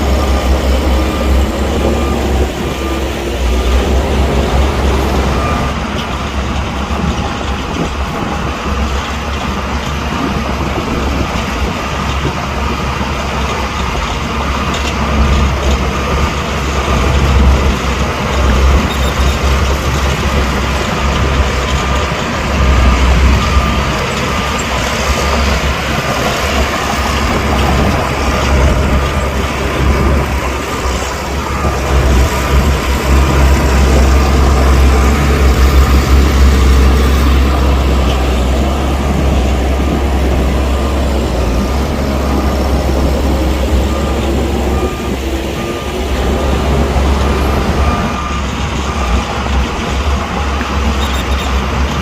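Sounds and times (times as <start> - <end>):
heavy diesel machinery rumble: 0.0 - 52.0.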